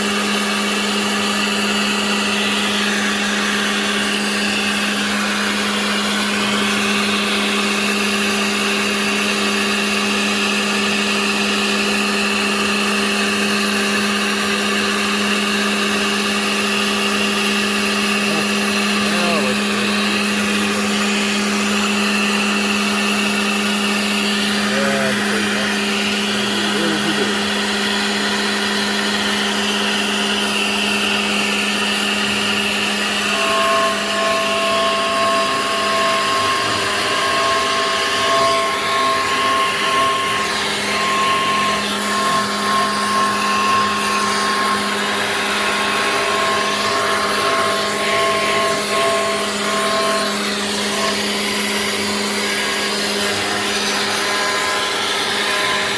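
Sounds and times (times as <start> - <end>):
router spindle humming: 0.0 - 55.9
whirring cutting noise: 0.0 - 55.9.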